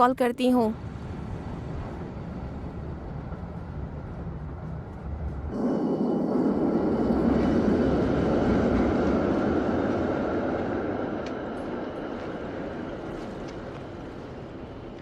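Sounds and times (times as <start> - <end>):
train rushing rumble: 0.7 - 15.0.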